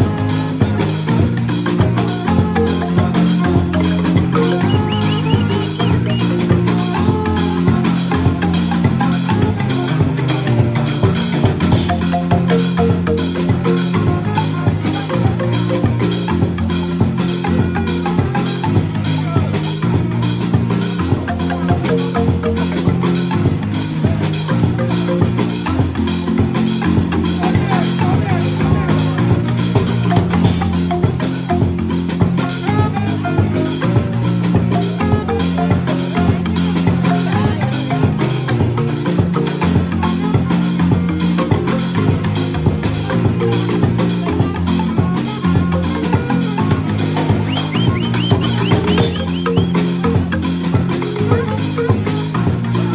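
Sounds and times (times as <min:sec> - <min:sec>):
drums keeping the beat: 0:00.0 - 0:52.9
low bass marimba notes: 0:00.0 - 0:52.9
marimbas playing: 0:00.0 - 0:52.9.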